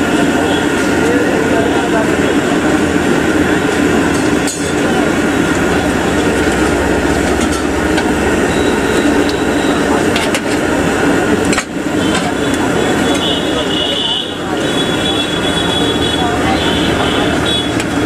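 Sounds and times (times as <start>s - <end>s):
frying in hot oil: 0.0s - 18.0s
many voices: 0.0s - 18.0s
traffic: 0.0s - 18.0s.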